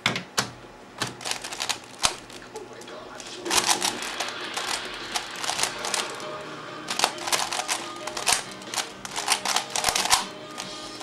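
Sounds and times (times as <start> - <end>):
puzzle cube clacking: 1.0 - 11.0.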